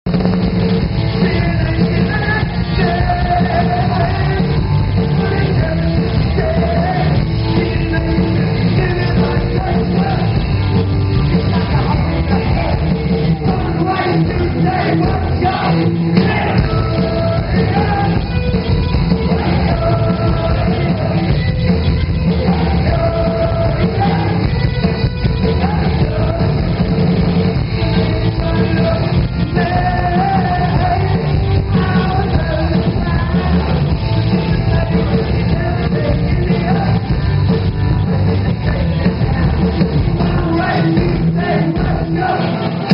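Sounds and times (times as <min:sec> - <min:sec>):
live rock band playing: 0:00.1 - 0:42.9
man singing: 0:01.0 - 0:24.6, 0:25.4 - 0:42.9.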